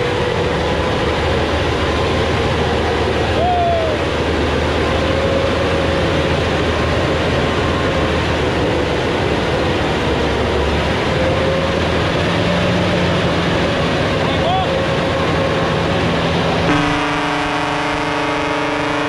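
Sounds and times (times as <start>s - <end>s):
steady whine: 0.0s - 19.0s
truck diesel engine under load: 0.0s - 19.0s.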